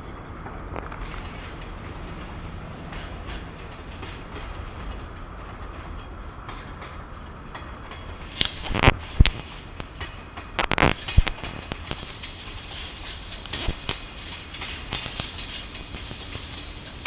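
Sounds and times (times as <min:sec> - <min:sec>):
freight train wagons rolling: 0:00.0 - 0:17.0.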